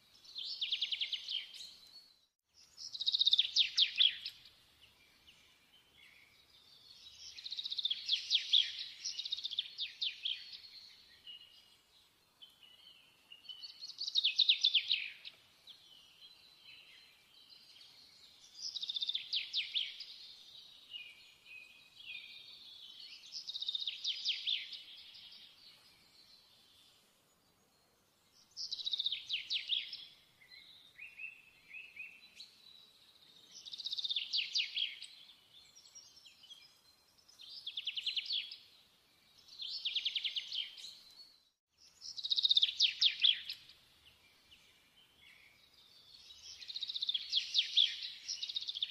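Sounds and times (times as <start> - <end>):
songbird singing trills: 0.2 - 48.9.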